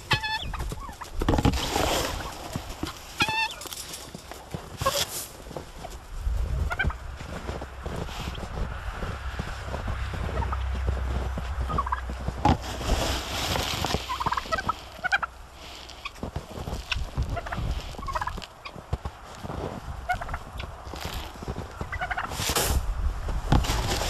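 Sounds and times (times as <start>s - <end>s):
turkeys gobbling: 0.0s - 8.4s, 9.1s - 19.1s, 20.0s - 22.6s
low steady rumble: 0.0s - 24.0s.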